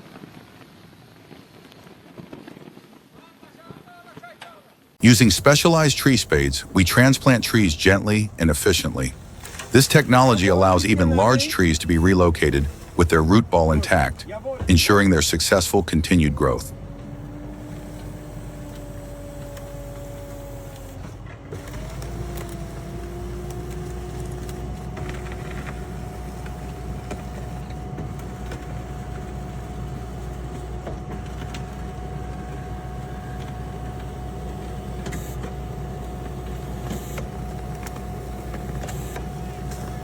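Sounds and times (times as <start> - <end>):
heavy machine whining: 5.0 - 40.0.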